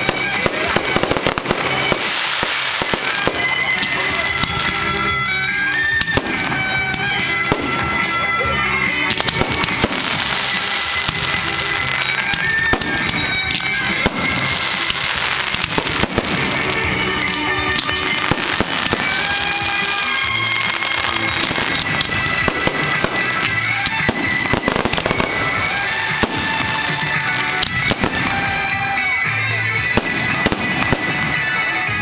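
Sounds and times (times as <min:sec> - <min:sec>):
fireworks bangs and crackles: 0:00.0 - 0:32.0
music with long held notes: 0:00.0 - 0:32.0.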